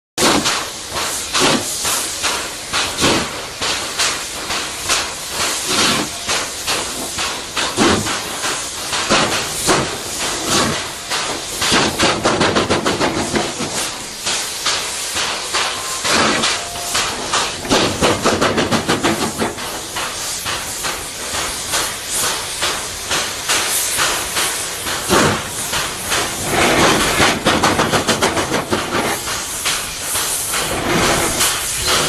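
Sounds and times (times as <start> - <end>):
hiss of steam: 0.2 - 32.0
steam locomotive exhaust chuffing: 0.2 - 32.0.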